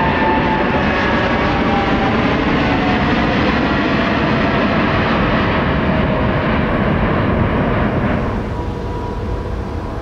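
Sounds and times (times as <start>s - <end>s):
jet airliner taking off: 0.0s - 10.0s.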